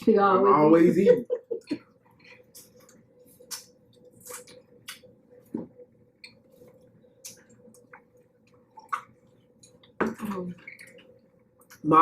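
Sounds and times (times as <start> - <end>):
faint steady hum: 0.0 - 12.0
wet chewing and smacking: 1.7 - 11.8.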